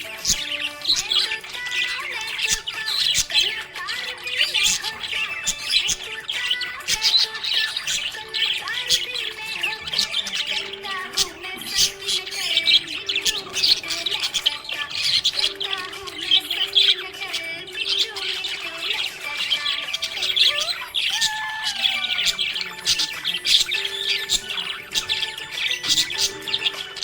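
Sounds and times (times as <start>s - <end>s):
budgies chirping and squawking: 0.0s - 27.0s.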